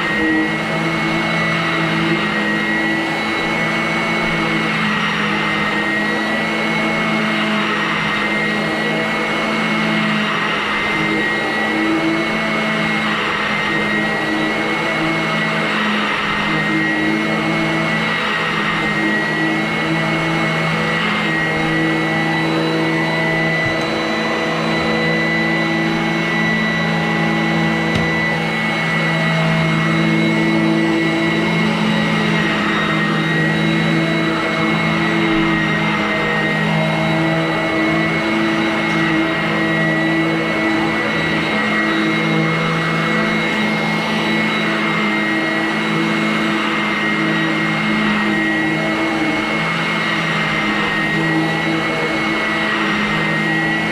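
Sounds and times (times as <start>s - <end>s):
vacuum cleaner motor running: 0.0s - 53.9s.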